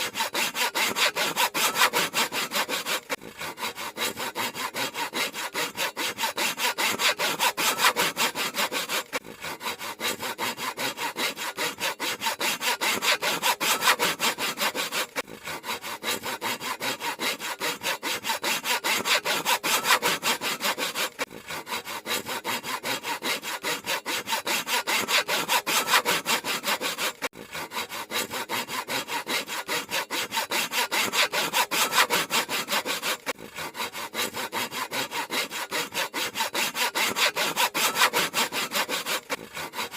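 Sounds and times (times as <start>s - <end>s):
handsaw cutting wood: 0.0s - 39.9s.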